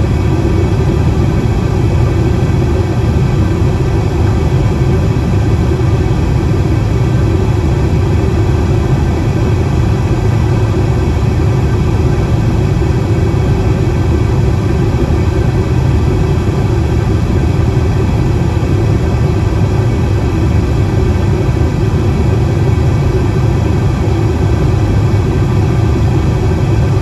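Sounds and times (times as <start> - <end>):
airliner engines droning: 0.0 - 27.0
rushing air in cabin: 0.0 - 27.0.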